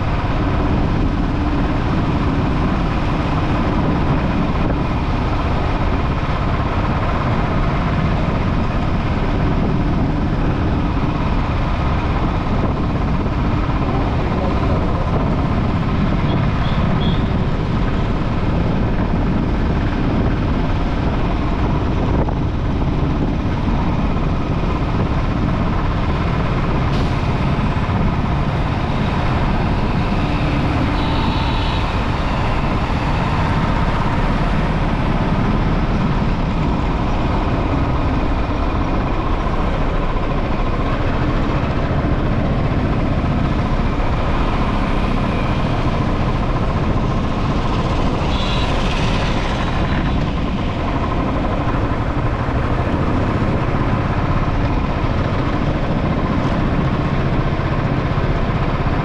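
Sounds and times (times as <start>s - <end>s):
motorcycle road and wind noise: 0.0s - 59.0s
traffic engines running: 0.0s - 59.0s.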